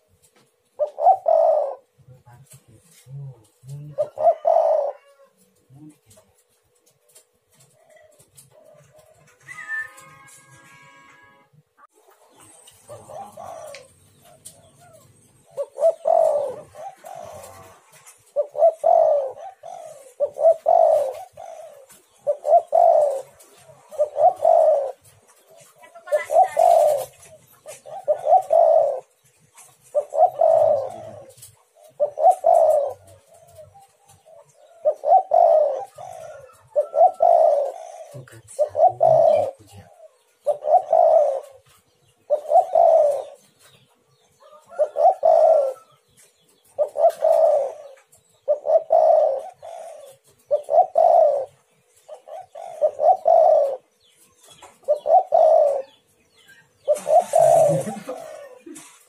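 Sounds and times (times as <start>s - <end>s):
dove cooing: 0.0s - 10.8s, 12.0s - 59.0s.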